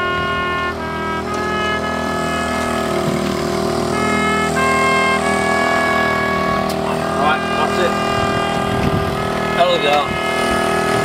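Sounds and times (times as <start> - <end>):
low drone: 0.0 - 11.0
slow melody of held notes: 0.0 - 11.0.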